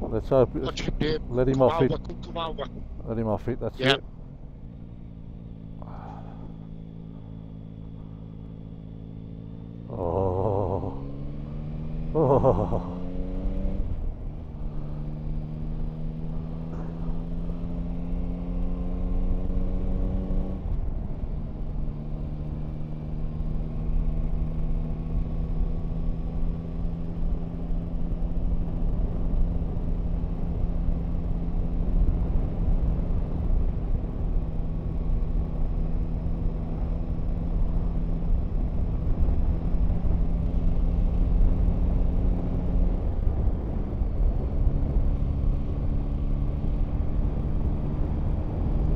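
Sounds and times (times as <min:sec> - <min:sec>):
low wind rumble: 0:00.0 - 0:48.9
motorcycle engine accelerating: 0:03.8 - 0:48.9.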